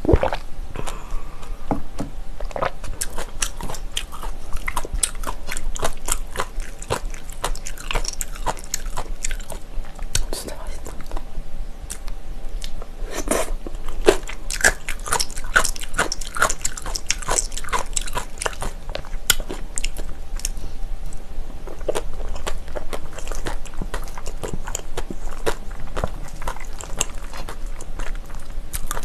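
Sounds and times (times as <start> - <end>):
crunchy chewing: 2.4 - 11.3, 11.9 - 29.0.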